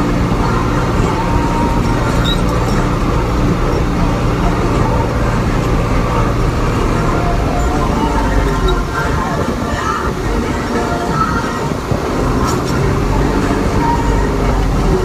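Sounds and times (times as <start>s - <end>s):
faint high whine: 0.0s - 15.0s
vehicle engine drone from cab: 0.0s - 15.0s.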